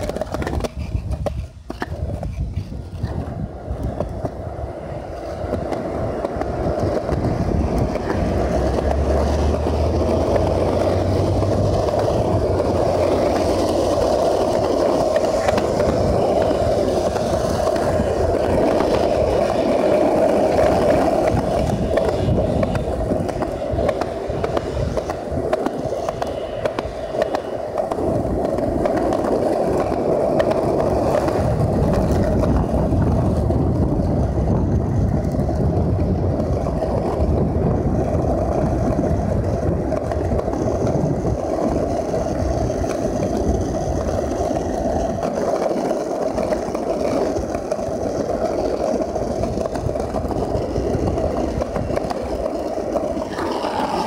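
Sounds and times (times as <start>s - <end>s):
skateboard wheels rolling: 0.0s - 54.0s.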